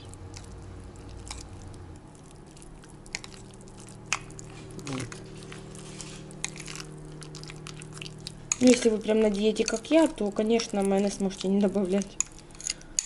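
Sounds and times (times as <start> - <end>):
squishing of thick mixture: 0.0 - 13.0
steady low hum: 0.0 - 13.0.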